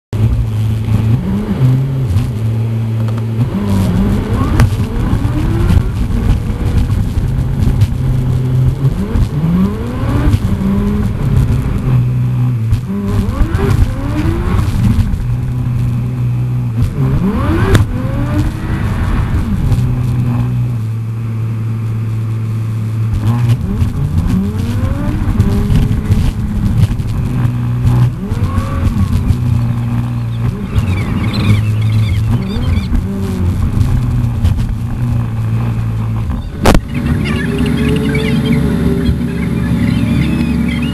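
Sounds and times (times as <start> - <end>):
road noise: 0.1 - 40.9
car engine hum: 0.2 - 40.9
engine revving whines: 0.2 - 40.9.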